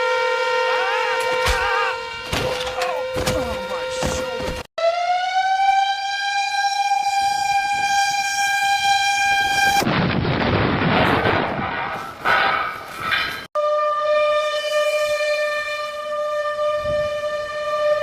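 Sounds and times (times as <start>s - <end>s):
tornado warning siren: 0.0s - 12.2s, 13.5s - 18.0s.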